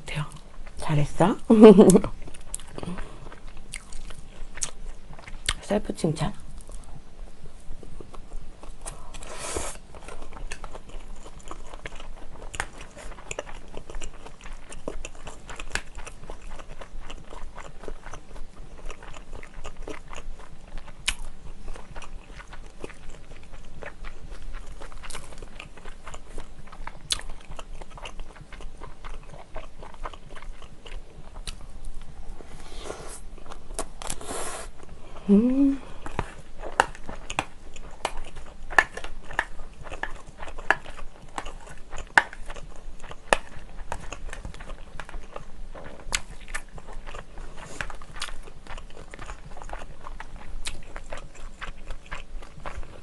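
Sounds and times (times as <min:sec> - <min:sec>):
chewing and biting food: 0:01.7 - 0:05.6, 0:07.8 - 0:34.9, 0:36.0 - 0:53.0.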